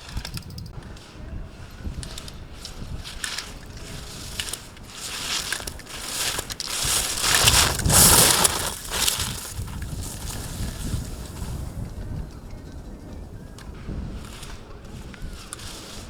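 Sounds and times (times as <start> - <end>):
ski edges scraping on snow: 0.9 - 16.0.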